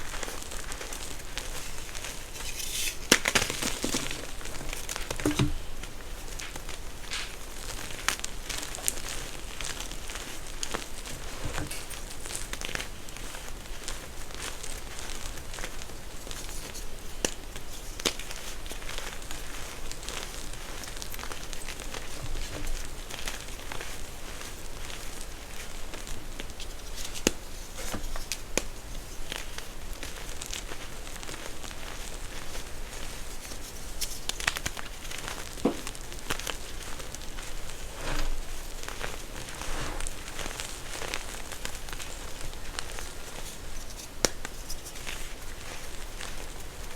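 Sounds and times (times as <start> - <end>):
crunchy material being crushed: 0.0 - 46.9.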